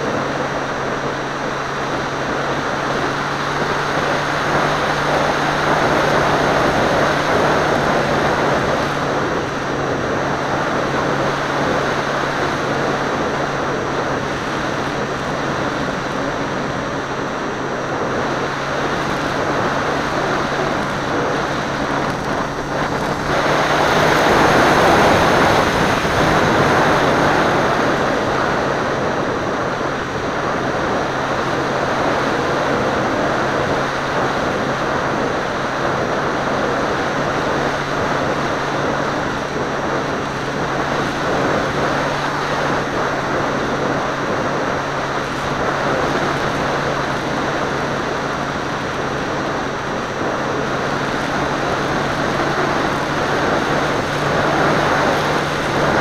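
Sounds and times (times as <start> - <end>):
aircraft motor drone: 0.0 - 56.0
wind rushing over microphone: 0.0 - 56.0.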